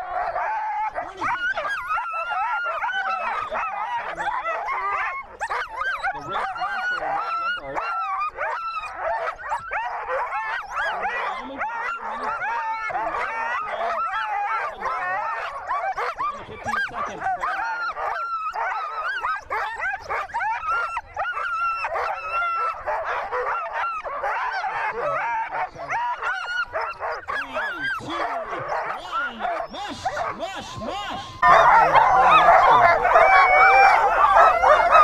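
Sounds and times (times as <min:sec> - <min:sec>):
dogs barking and yelping: 0:00.0 - 0:35.0.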